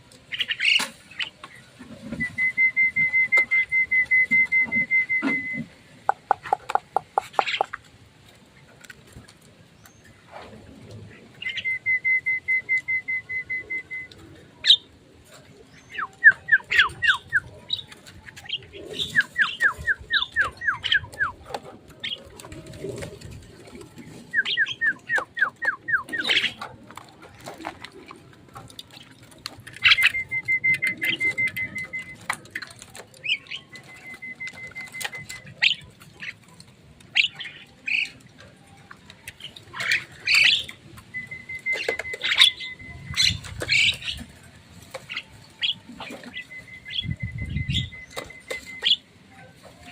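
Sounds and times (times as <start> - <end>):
caged birds calling: 0.0 - 49.9.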